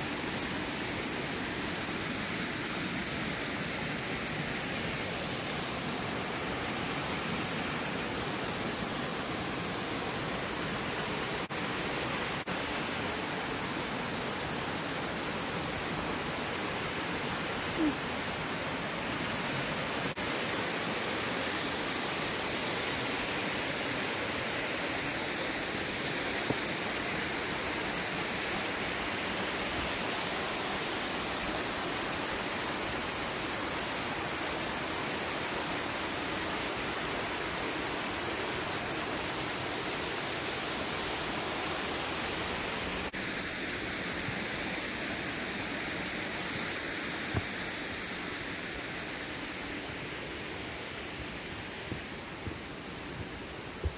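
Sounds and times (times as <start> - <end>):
waterfall rushing over rocks: 0.0 - 53.9.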